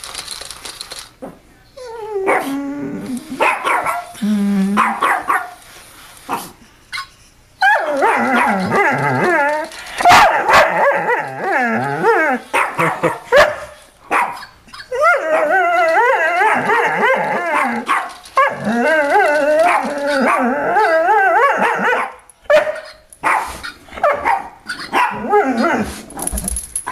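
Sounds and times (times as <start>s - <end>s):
dog whining and howling: 1.8s - 5.3s, 6.9s - 13.6s, 14.2s - 23.1s, 24.0s - 26.9s.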